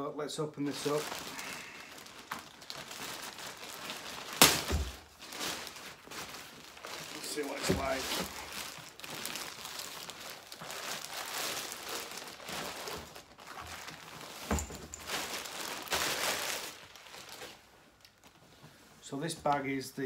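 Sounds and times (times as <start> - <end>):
bag crinkling and rustling: 0.6 - 18.6.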